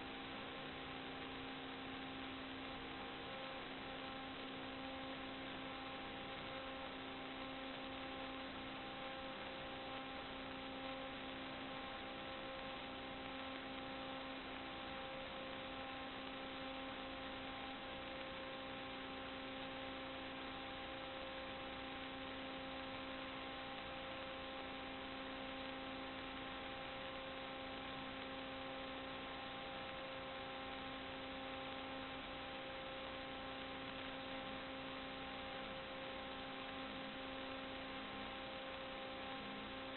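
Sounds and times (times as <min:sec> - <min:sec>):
constant hiss: 0:00.0 - 0:39.9
electrical hum: 0:00.0 - 0:39.9.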